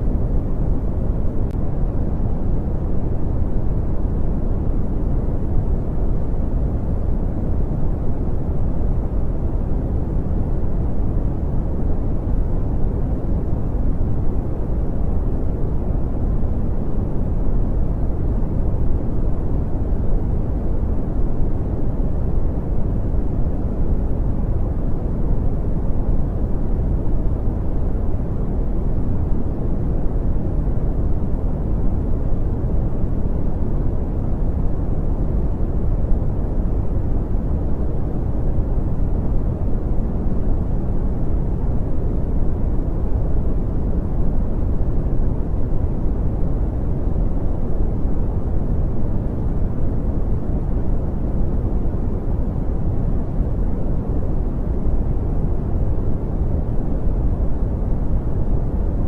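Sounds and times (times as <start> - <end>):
brown noise rumble: 0.0 - 59.0.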